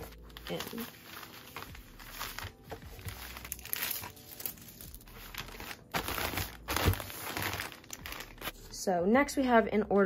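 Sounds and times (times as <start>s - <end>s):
plastic mailer crinkling: 0.0s - 8.6s.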